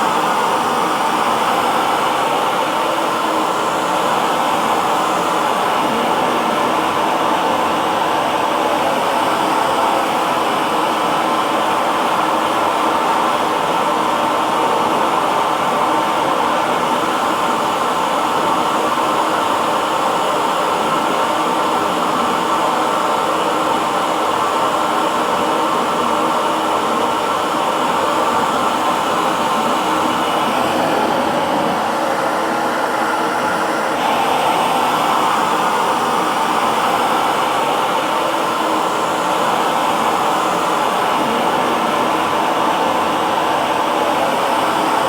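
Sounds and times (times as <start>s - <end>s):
hair dryer running: 0.0s - 45.0s.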